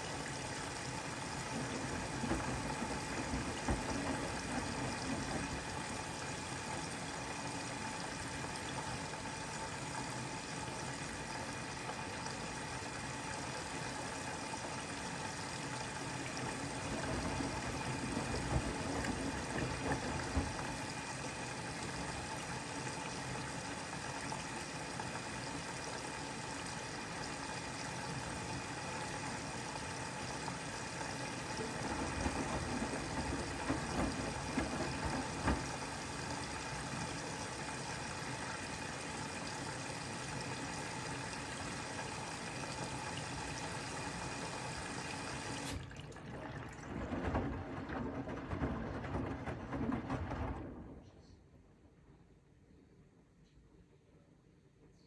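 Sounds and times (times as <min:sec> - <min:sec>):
washing machine drum tumbling: 0:00.0 - 0:26.6, 0:27.6 - 0:51.3
water rushing into washing machine: 0:00.0 - 0:51.3.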